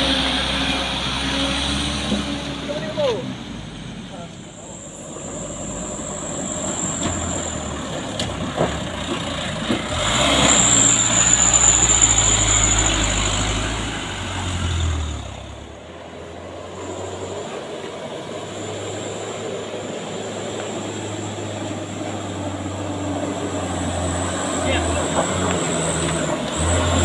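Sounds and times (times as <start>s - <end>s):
diesel truck engine labouring: 0.0s - 27.0s.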